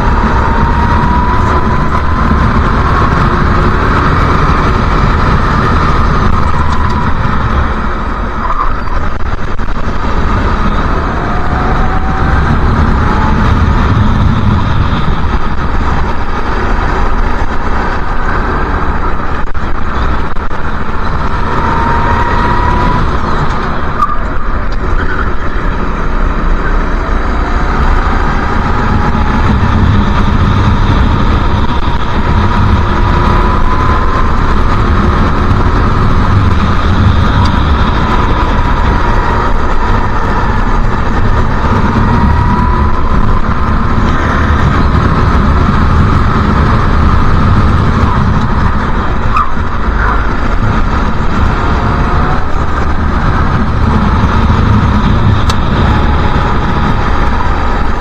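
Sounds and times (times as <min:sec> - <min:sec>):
racing kart engine accelerating: 0:00.0 - 0:58.0.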